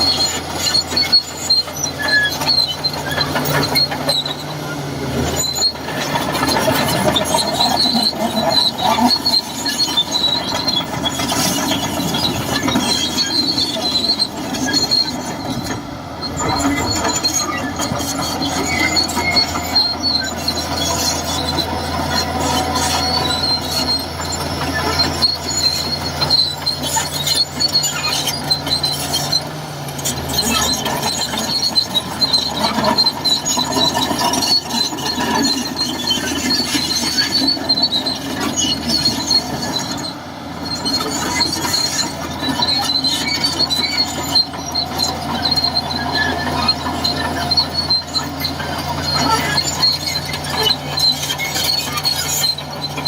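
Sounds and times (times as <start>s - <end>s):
bulldozer diesel engine: 0.0s - 53.0s
steel tracks squealing and clanking: 0.0s - 53.0s.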